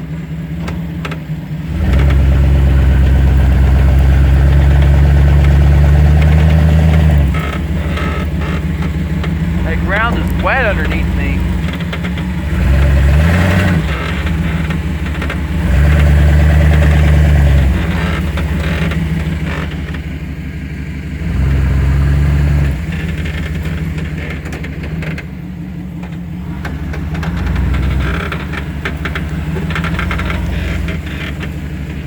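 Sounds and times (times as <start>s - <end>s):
pickup truck engine idling and revving: 0.0s - 32.0s.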